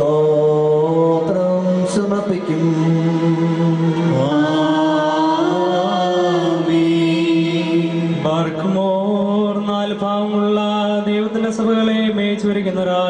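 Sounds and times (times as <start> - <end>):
liturgical chant: 0.0 - 13.0.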